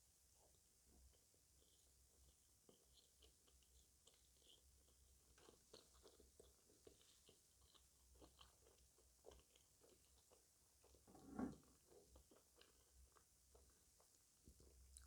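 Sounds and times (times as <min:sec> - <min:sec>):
person chewing and crunching sweets: 0:01.1 - 0:15.0.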